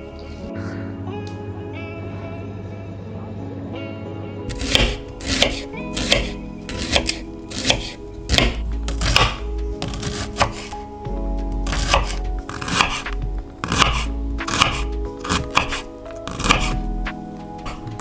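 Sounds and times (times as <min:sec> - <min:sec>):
background music with held notes: 0:00.0 - 0:18.0.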